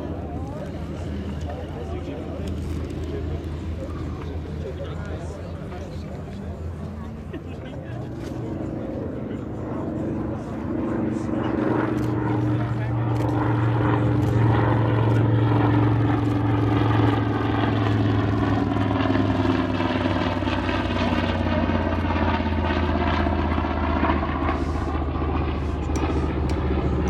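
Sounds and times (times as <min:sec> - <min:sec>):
propeller plane flying by: 0:00.0 - 0:27.0.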